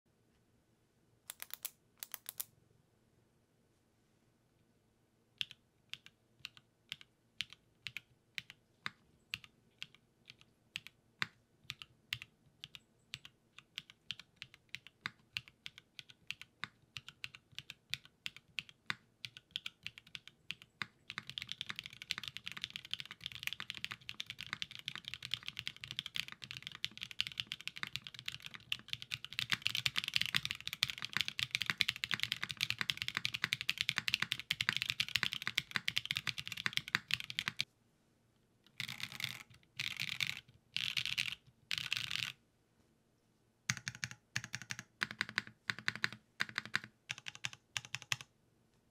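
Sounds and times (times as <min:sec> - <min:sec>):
mechanical keyboard typing: 0:01.3 - 0:02.5, 0:05.4 - 0:37.7, 0:38.7 - 0:42.4, 0:43.7 - 0:48.3.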